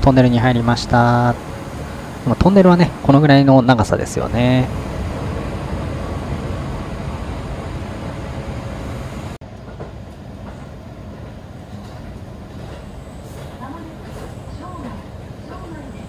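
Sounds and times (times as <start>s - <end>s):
train rumbling in a tunnel: 0.0s - 16.0s.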